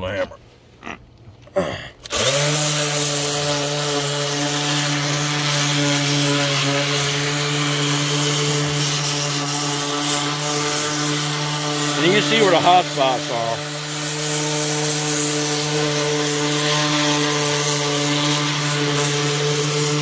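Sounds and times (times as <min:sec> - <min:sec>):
orbital sander on painted wood: 0:02.0 - 0:20.0.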